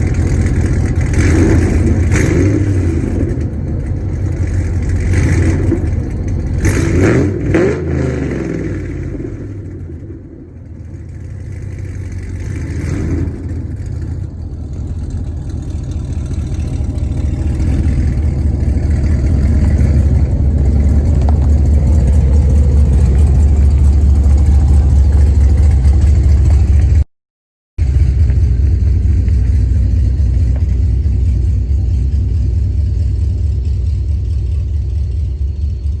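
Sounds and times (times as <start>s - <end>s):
car engine revving and idling: 0.0s - 27.1s, 27.8s - 36.0s
deep exhaust rumble: 0.0s - 27.1s, 27.8s - 36.0s.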